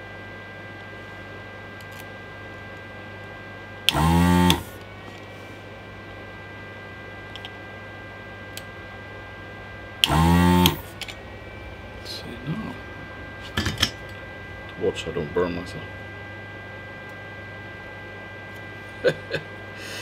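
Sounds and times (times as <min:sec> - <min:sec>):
desoldering pump buzz: 0:00.0 - 0:20.0
low hum with faint whine: 0:00.0 - 0:20.0.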